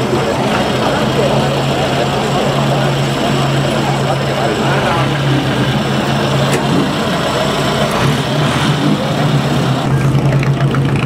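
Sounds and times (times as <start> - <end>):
racing car engine idling: 0.0 - 11.0.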